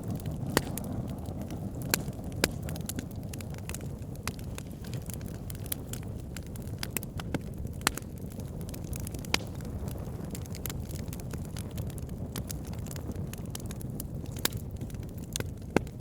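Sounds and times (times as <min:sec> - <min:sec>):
flames rumbling: 0:00.0 - 0:16.0
logs crackling and popping: 0:00.0 - 0:16.0.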